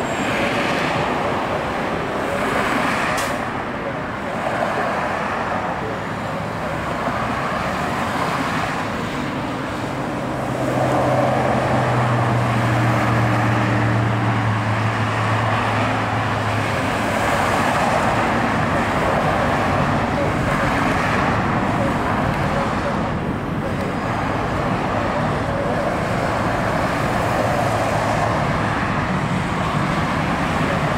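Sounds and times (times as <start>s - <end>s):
low steady vehicle hum: 0.0s - 30.9s
road traffic passing: 0.0s - 30.9s.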